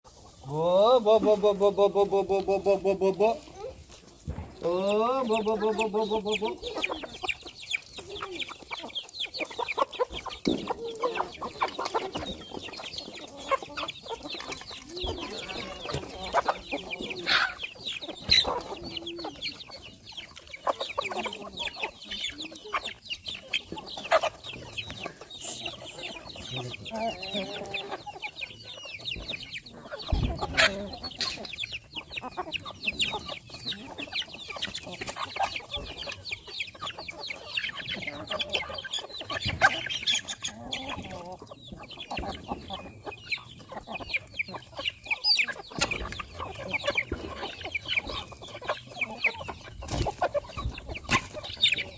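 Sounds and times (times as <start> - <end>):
chickens and roosters clucking: 0.0 - 51.9.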